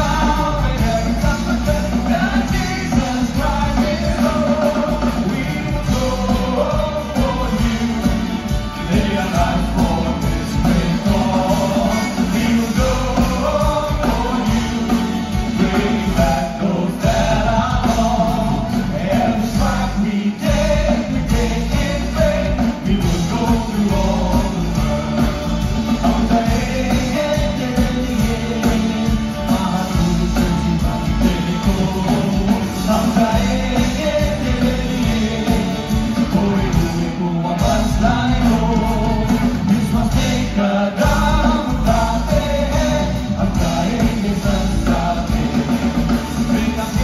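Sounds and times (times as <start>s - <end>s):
person singing: 0.0s - 47.0s
rock band playing: 0.0s - 47.0s.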